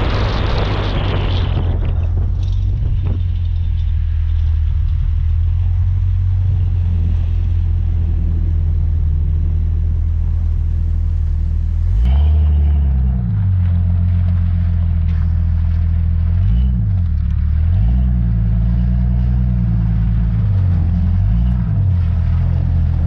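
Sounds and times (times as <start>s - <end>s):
vehicle engine and road drone: 0.0s - 23.0s.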